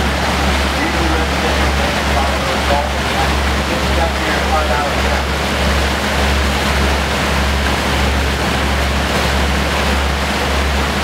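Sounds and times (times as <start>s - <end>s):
boat engine rumble: 0.0s - 11.0s
churning water: 0.0s - 11.0s.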